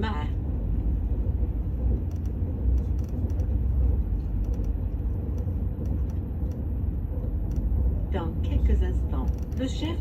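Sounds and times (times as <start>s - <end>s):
train cabin low rumble: 0.0s - 10.0s.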